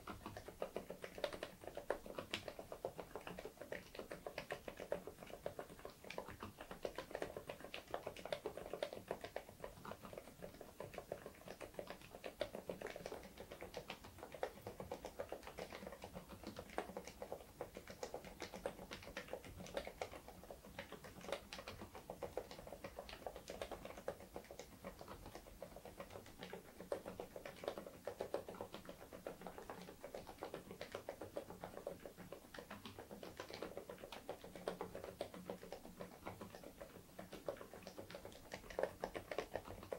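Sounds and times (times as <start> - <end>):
quiet keyboard typing: 0.0 - 39.9.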